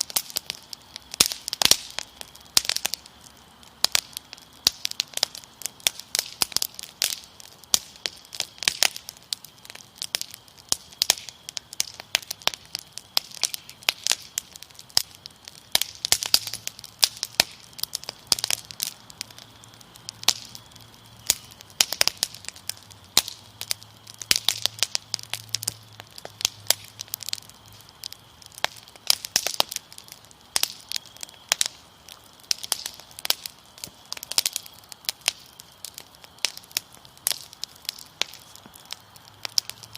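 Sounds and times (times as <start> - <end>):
crickets chirring: 0.0 - 39.9
fire crackling and popping: 0.0 - 39.9.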